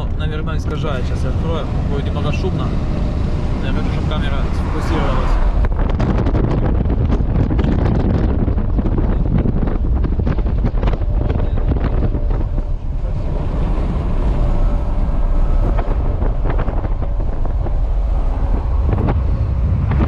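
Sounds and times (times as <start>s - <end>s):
truck engine and road noise: 0.0s - 20.0s
wind buffeting microphone: 0.0s - 20.0s.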